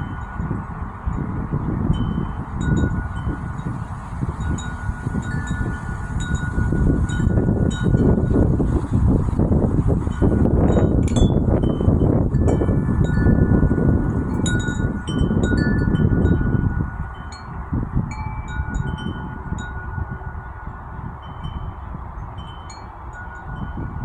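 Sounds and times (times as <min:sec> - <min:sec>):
metal wind chime ringing: 0:00.0 - 0:08.4, 0:10.1 - 0:24.0
low wind rumble on microphone: 0:00.0 - 0:24.0.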